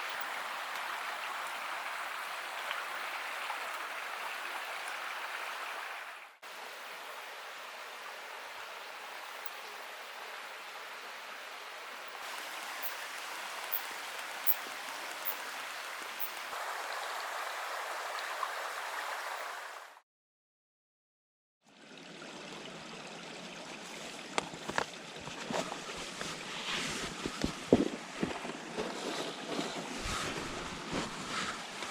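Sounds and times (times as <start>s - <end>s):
running water rushing: 0.0s - 20.0s, 21.7s - 31.9s.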